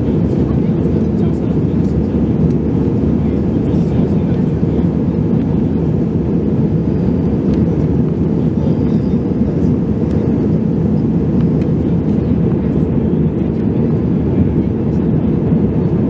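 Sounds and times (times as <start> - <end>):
aircraft cabin roar: 0.0 - 16.0.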